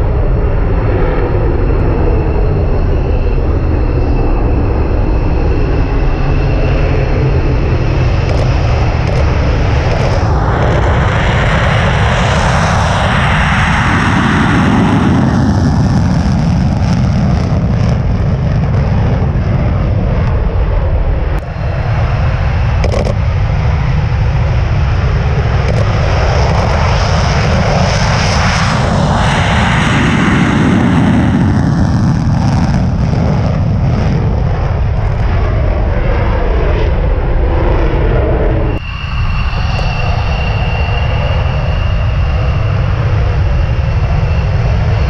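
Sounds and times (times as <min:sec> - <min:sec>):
loud jet roar: 0:00.0 - 0:45.0.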